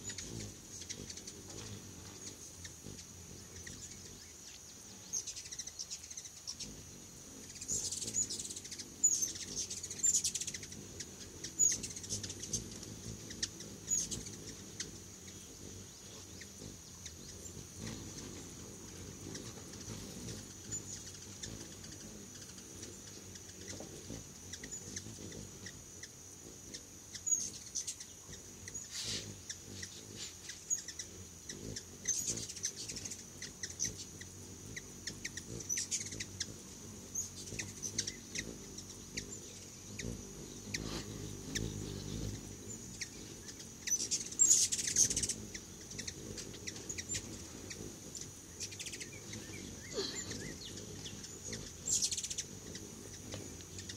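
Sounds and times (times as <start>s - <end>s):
hummingbirds chipping and chattering: 0.0s - 53.9s
steady high-pitched hum: 0.0s - 53.9s.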